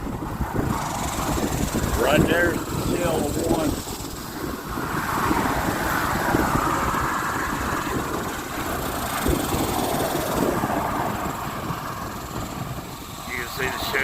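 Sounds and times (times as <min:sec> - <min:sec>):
wind buffeting microphone: 0:00.0 - 0:14.0
cicadas droning: 0:00.6 - 0:14.0.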